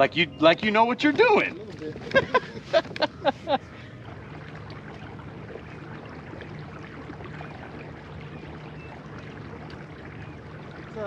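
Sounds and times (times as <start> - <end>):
water wash: 0.6 - 11.0.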